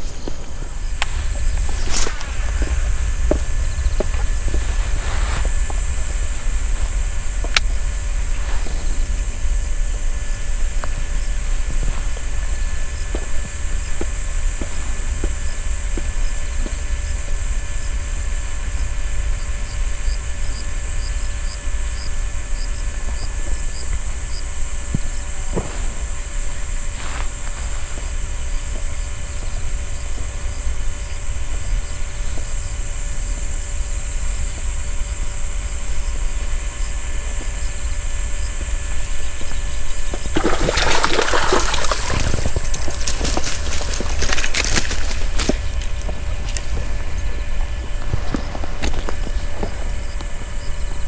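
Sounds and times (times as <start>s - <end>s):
continuous low rumble: 0.0s - 51.0s
crickets chirring: 0.0s - 51.0s.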